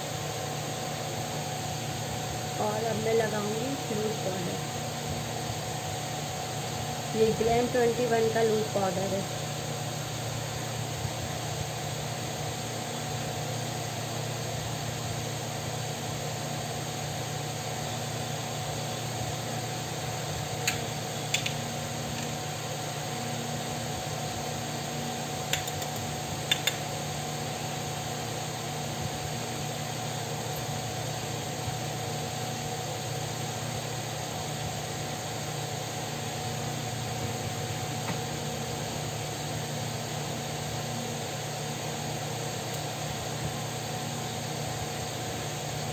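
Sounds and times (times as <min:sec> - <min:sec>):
electric fan whirring: 0:00.0 - 0:45.9.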